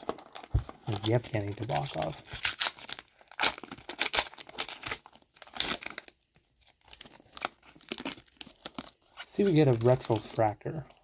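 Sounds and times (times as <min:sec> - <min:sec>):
card pack wrapper tearing and crinkling: 0:00.0 - 0:11.0.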